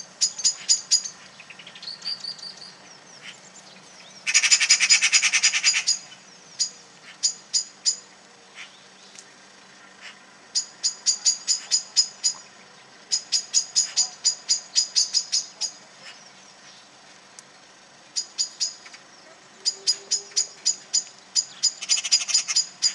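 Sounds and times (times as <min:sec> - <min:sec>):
small birds alarm calls: 0:00.0 - 0:22.9.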